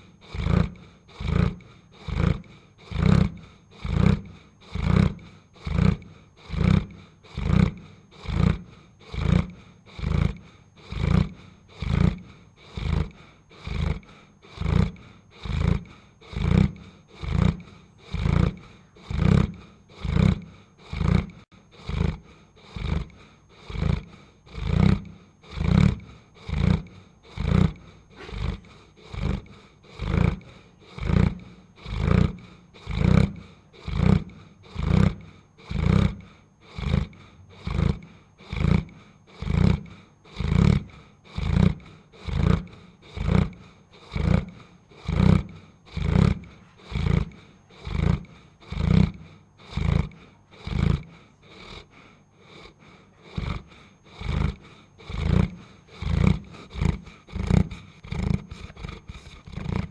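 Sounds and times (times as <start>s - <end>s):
dog snoring: 0.0s - 59.9s.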